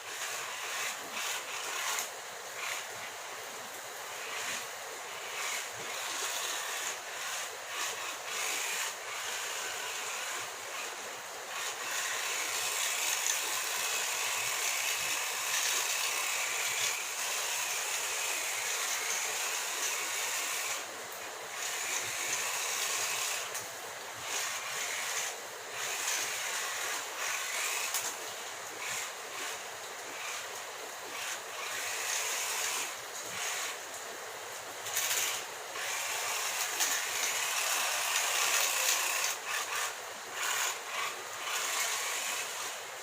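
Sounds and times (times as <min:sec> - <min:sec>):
toy car motor whining: 0:00.0 - 0:03.5, 0:04.1 - 0:33.9, 0:34.8 - 0:42.9.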